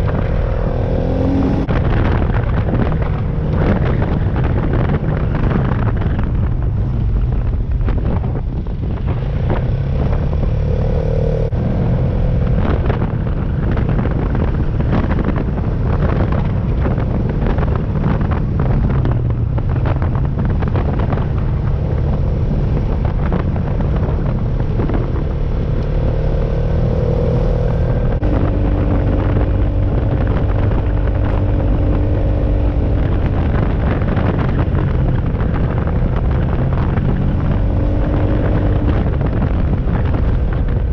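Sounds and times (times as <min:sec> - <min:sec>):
atv engine running: 0:00.0 - 0:40.9
wind noise on microphone: 0:00.0 - 0:40.9.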